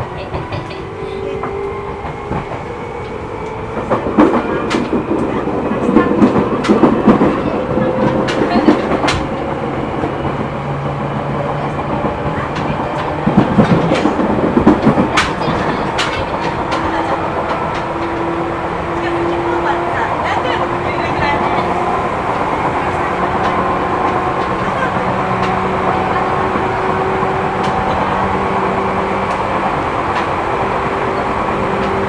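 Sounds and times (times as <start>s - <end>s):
train rumbling: 0.0s - 32.0s
wheels clacking on rails: 0.0s - 32.0s.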